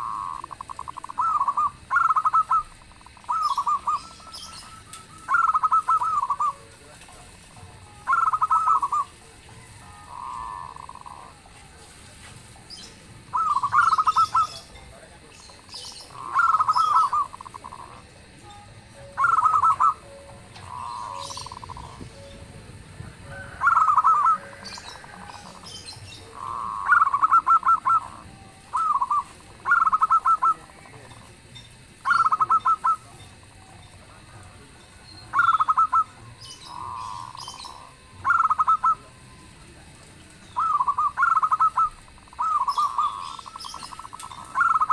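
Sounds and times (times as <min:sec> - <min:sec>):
doves cooing: 0:00.0 - 0:44.9
small birds chirping: 0:00.0 - 0:44.9.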